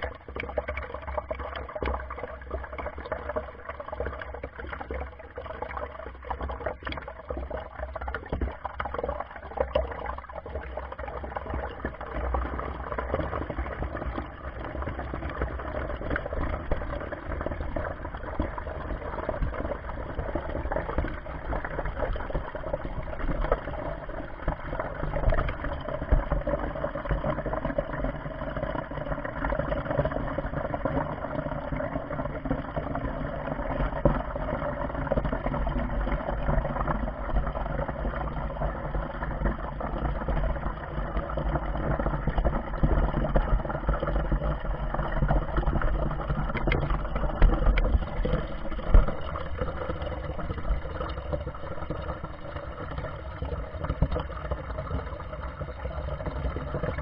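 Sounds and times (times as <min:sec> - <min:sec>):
water churning and gurgling: 0:00.0 - 0:57.0.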